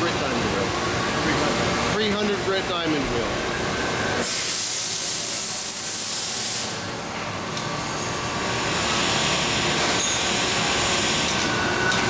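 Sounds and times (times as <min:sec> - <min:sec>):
steady machine noise: 0:00.0 - 0:12.0.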